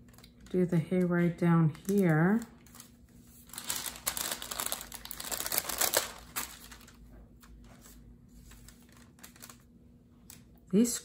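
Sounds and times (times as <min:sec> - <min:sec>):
sticker sheets crinkling: 0:00.0 - 0:10.6.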